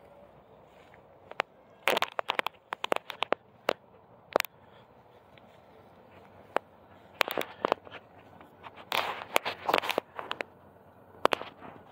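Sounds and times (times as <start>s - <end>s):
sharp clicks and crackling rustles: 0.7s - 11.9s.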